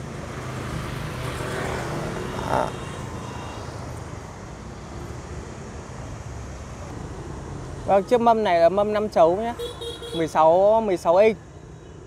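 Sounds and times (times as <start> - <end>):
passing vehicle engine and tyres: 0.0 - 10.8
low hum of traffic: 0.0 - 12.0.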